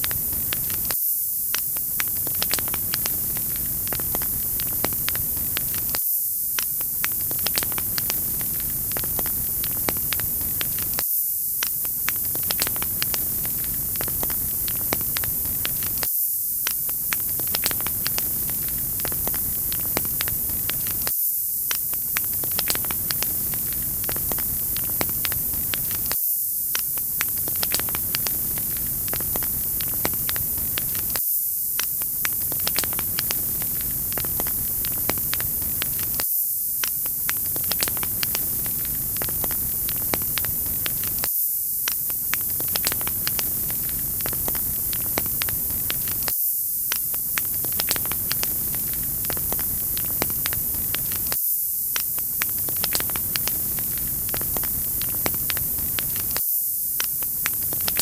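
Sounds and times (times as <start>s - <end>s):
wood fire crackling and popping: 0.0s - 56.4s, 57.0s - 58.0s
bright hiss: 0.0s - 58.0s.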